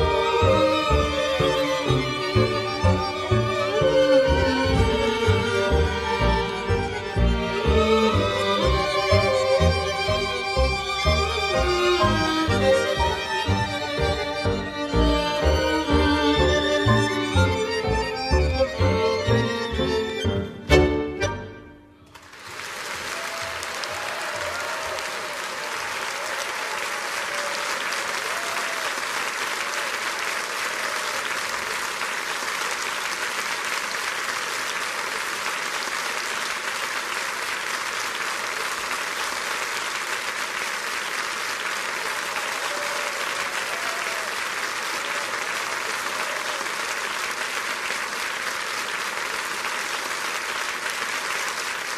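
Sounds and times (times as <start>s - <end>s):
large audience applauding: 0.0s - 20.5s, 22.0s - 51.9s.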